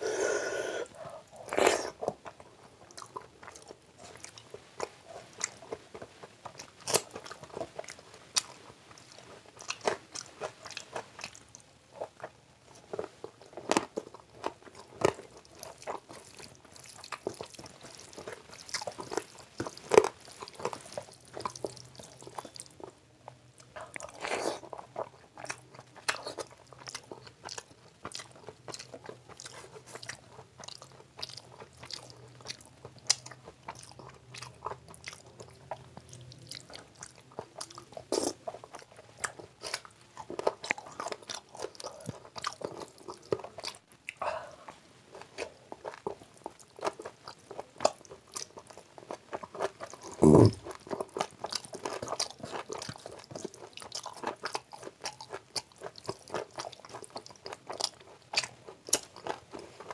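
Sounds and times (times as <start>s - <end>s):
chewing and mouth smacking: 1.0s - 44.2s, 45.1s - 59.9s.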